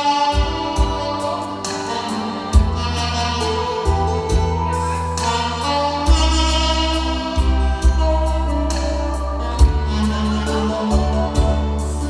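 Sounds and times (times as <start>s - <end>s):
backing track with bass and drums: 0.0s - 12.0s
saxophone melody: 0.0s - 12.0s.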